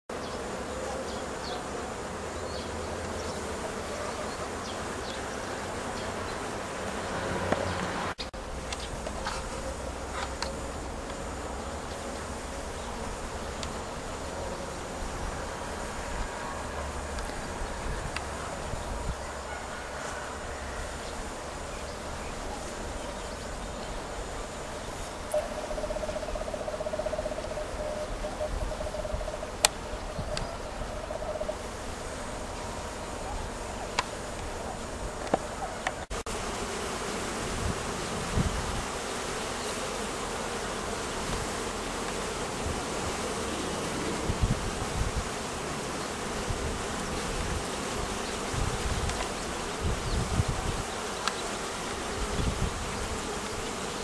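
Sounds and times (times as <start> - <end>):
many bees buzzing: 0.1 - 54.0
single bee humming: 0.1 - 54.0.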